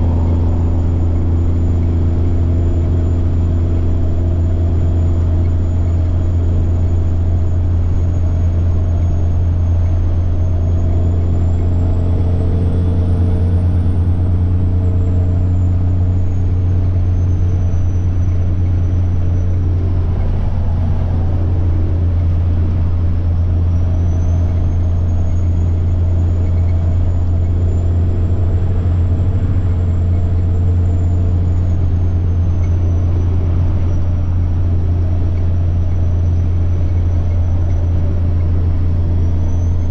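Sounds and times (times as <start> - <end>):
diesel truck engine drone: 0.0 - 39.9
high turbo whine: 0.0 - 39.9.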